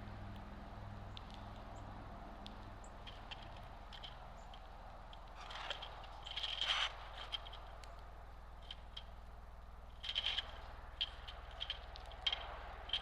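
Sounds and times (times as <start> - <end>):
low steady hum: 0.0 - 13.0
birds pecking at seed: 0.2 - 13.0.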